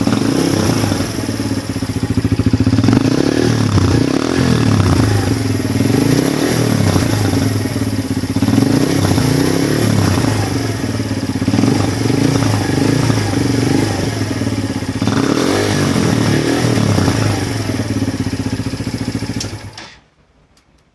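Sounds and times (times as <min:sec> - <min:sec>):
motorcycle engine revving: 0:00.0 - 0:19.8.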